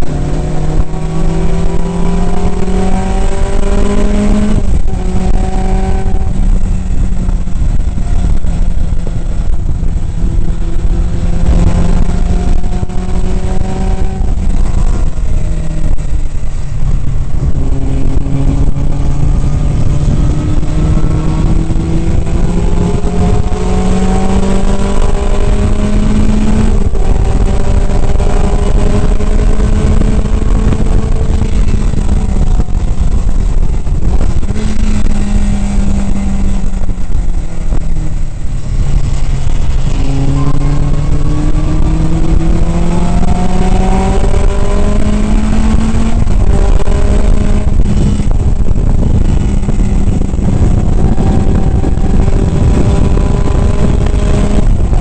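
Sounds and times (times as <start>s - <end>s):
race car engine revving: 0.0s - 55.0s
wind and spray rushing: 0.0s - 55.0s.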